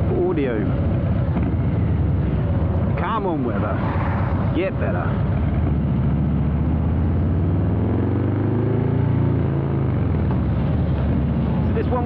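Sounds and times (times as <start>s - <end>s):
motorcycle engine deep rumble: 0.0s - 12.0s.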